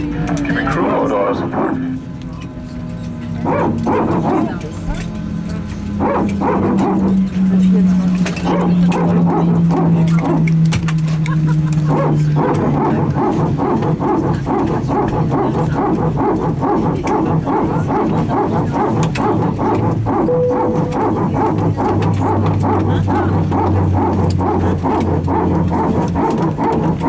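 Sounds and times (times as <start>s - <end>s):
steady low hum: 0.0s - 27.0s
rapid barking-like pulsing: 3.2s - 27.0s.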